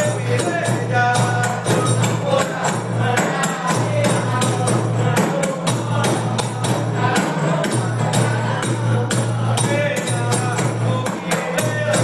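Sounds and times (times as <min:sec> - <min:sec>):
hand-beaten frame drums: 0:00.0 - 0:12.0.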